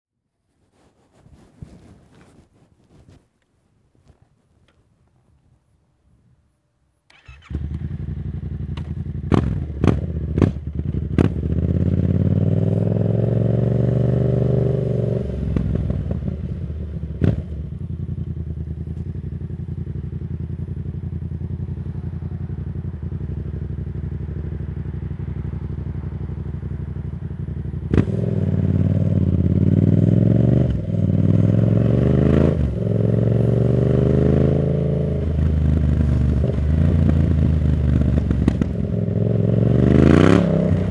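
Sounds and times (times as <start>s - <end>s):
motorcycle engine revving: 7.1s - 40.9s.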